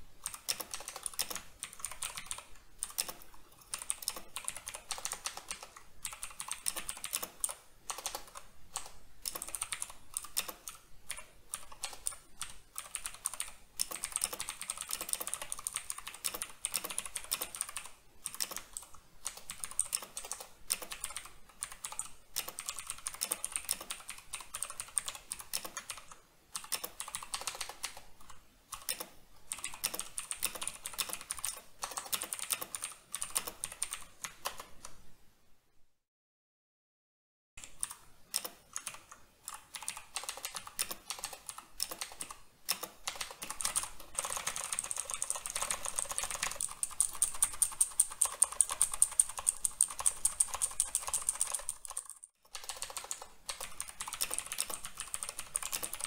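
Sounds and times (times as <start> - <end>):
mechanical keyboard typing: 0.2 - 35.0, 37.6 - 56.0.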